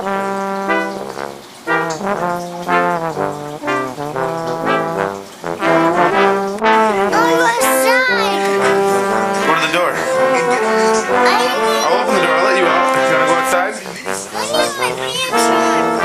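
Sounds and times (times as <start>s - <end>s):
brass instruments playing melody: 0.0s - 16.0s.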